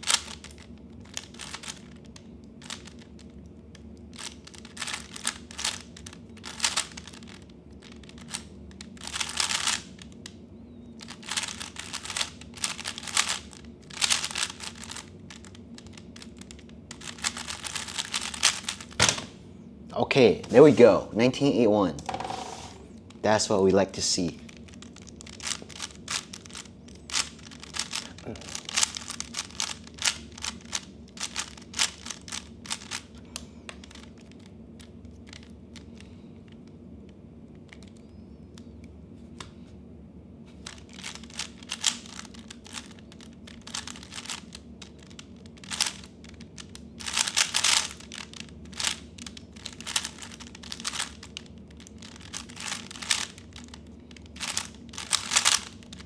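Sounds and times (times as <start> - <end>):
speed cube clicking: 0.0 - 19.2, 24.4 - 36.8, 37.5 - 38.7, 40.6 - 56.0.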